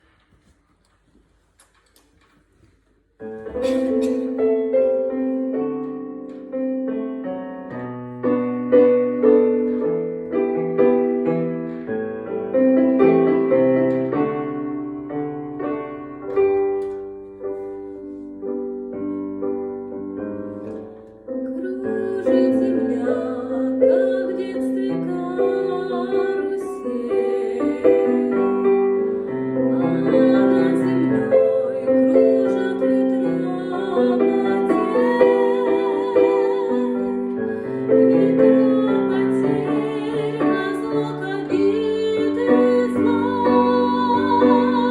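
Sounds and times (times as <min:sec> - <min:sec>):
piano music: 0:03.2 - 0:44.9.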